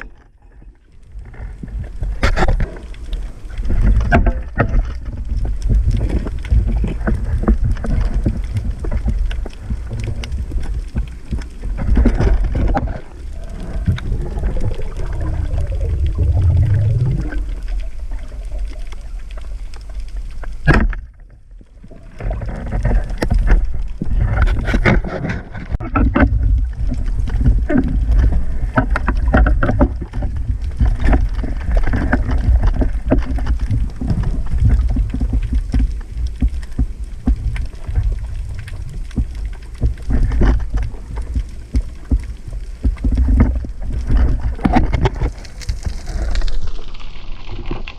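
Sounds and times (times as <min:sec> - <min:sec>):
underwater churning rumble: 0:00.0 - 0:47.9
underwater clicks and knocks: 0:00.0 - 0:47.9.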